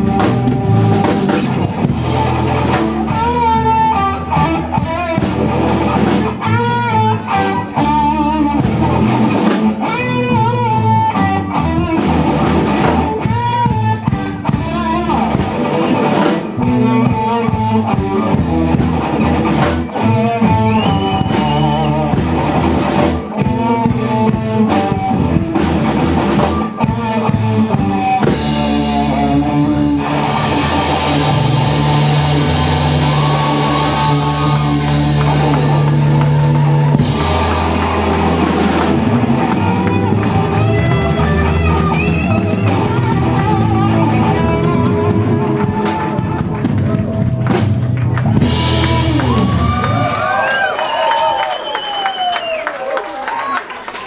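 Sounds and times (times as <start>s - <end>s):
electric guitar bent notes: 0.0s - 50.8s
bass guitar: 0.0s - 52.6s
drum kit: 0.0s - 52.6s.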